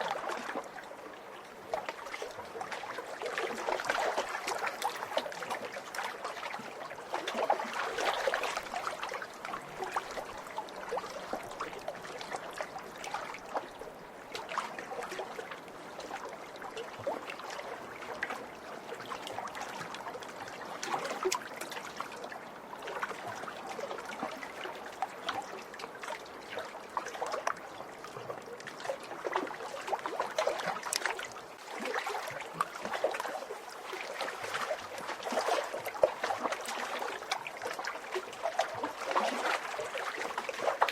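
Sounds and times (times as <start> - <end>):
lake waves lapping at shore: 0.0 - 40.9.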